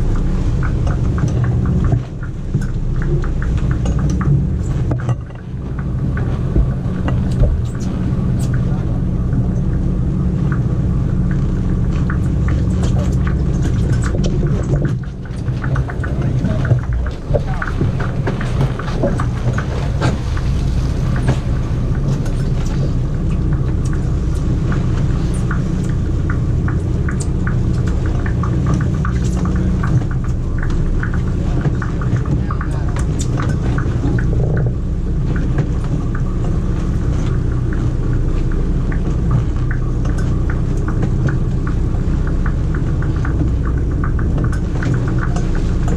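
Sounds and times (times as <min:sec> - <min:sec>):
boat engine droning: 0:00.0 - 0:45.9.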